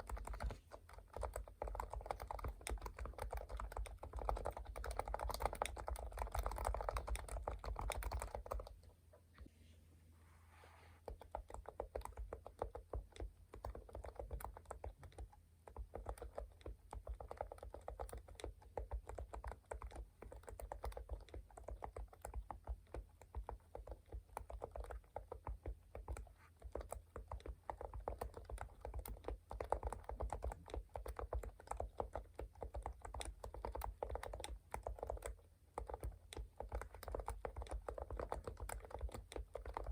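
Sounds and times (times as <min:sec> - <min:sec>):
typing on keyboard: 0:00.0 - 0:08.9, 0:11.0 - 0:39.9.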